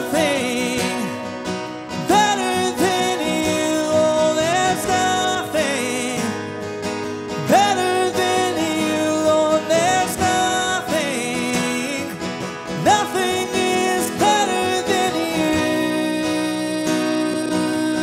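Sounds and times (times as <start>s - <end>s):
acoustic guitar strumming: 0.0s - 18.0s
man singing wordless notes: 0.0s - 18.0s.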